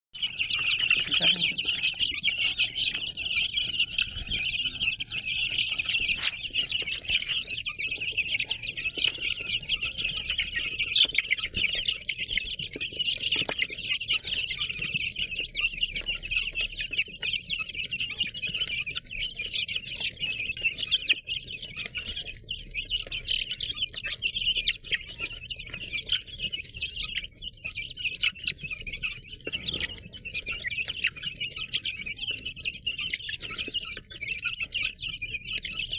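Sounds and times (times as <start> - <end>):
baby chicks peeping: 0.2 - 35.9.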